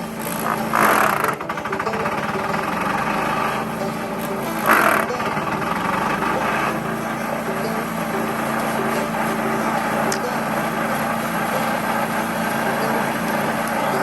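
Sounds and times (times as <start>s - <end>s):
chipper shredder chipping branches: 0.0s - 14.0s.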